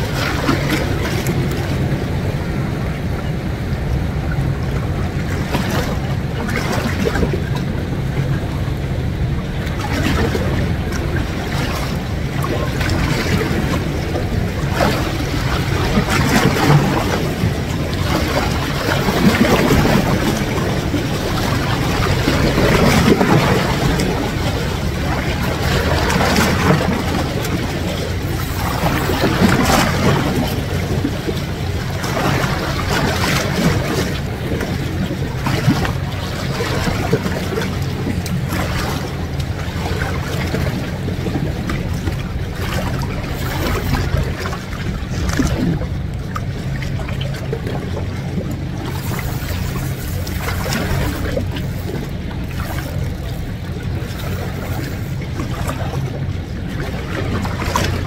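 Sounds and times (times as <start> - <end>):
seawater lapping against rocks: 0.0 - 58.0
steady low drone: 0.0 - 58.0
wind buffeting microphone: 0.0 - 58.0.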